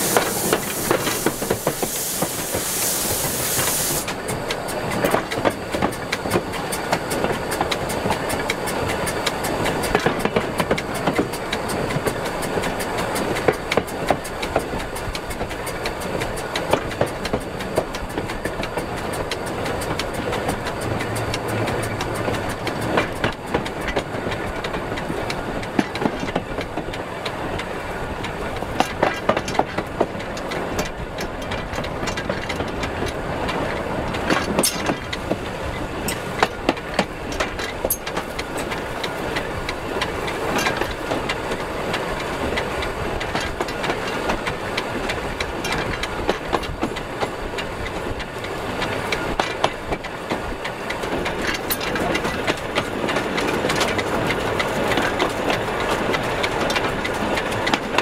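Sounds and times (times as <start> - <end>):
steam locomotive wheels rattling: 0.0 - 58.0.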